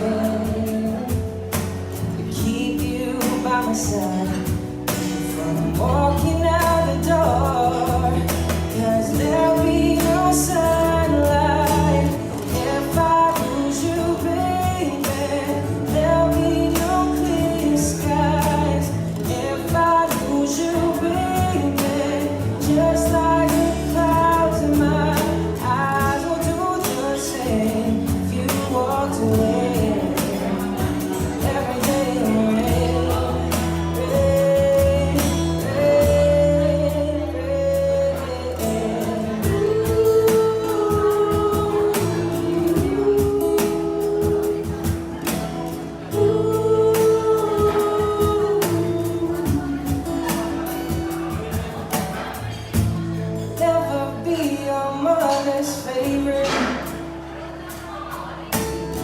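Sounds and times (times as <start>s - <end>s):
band accompaniment: 0.0s - 53.9s.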